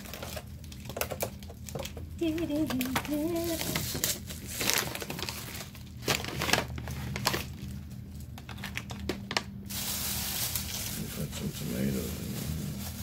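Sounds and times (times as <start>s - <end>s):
plastic packet crinkling: 0.0s - 13.0s.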